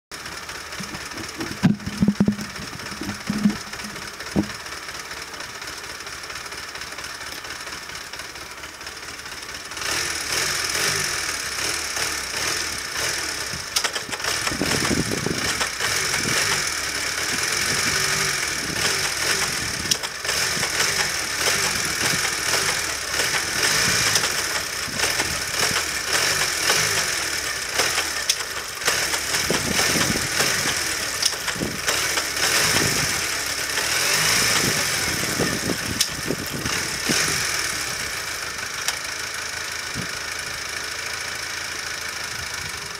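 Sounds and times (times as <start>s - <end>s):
motorcycle engine idling with rattle: 0.1s - 42.9s.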